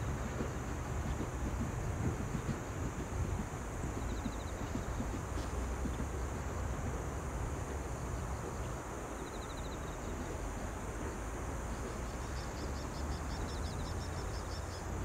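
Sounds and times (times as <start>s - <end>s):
high insect drone: 0.0s - 15.0s
wind rumbling on microphone: 0.0s - 15.0s.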